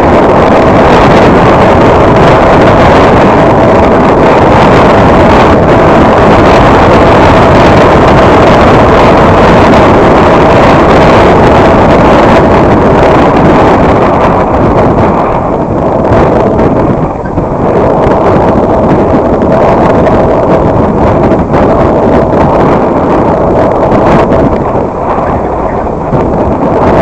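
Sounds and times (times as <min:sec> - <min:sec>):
car rumbling on dirt road: 0:00.0 - 0:27.0
wind noise on microphone: 0:00.0 - 0:27.0.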